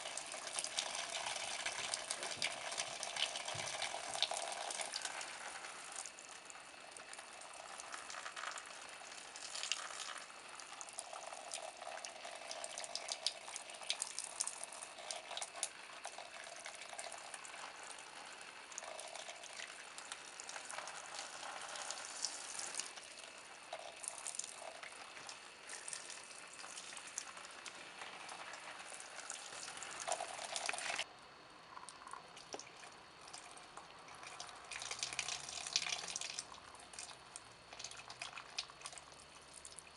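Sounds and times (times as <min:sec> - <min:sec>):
liquid trickling and dripping: 0:00.0 - 0:31.1, 0:31.7 - 0:39.9.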